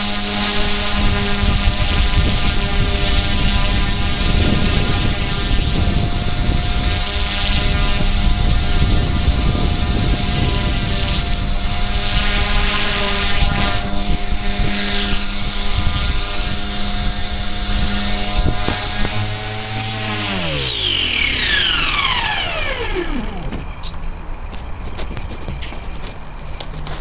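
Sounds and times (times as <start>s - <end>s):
toy helicopter whining: 0.0s - 26.6s.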